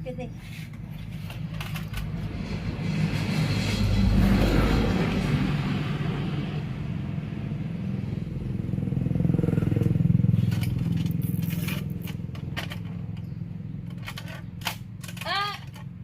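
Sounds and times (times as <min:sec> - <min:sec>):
small engine passing by: 0:01.0 - 0:14.5.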